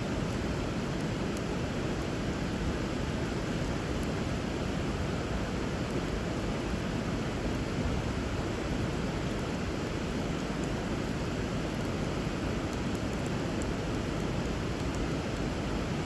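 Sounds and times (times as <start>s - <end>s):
wood fire crackling: 0.2s - 16.0s.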